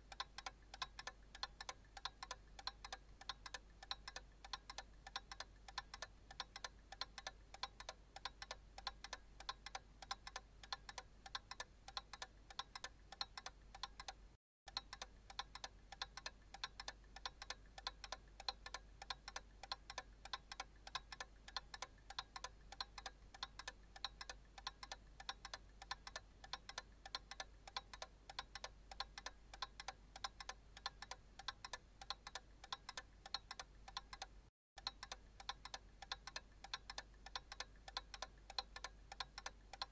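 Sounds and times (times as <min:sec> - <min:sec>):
analog clock ticking: 0:00.0 - 0:39.9.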